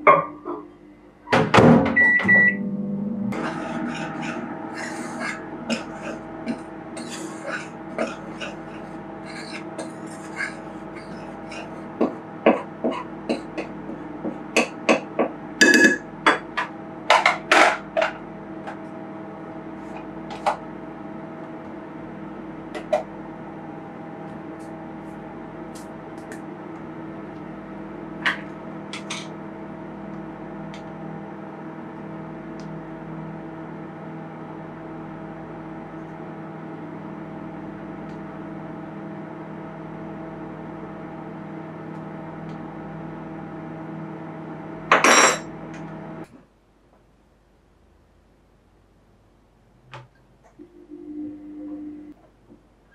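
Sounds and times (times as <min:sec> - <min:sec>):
microwave oven humming: 0:00.0 - 0:52.9.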